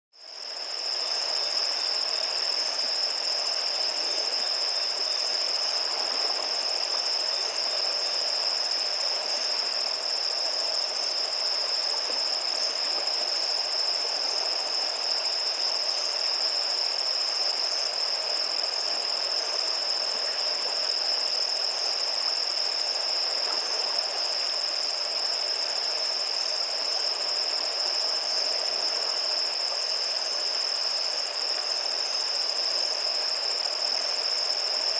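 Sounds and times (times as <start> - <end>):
crickets trilling: 0.2 - 34.9.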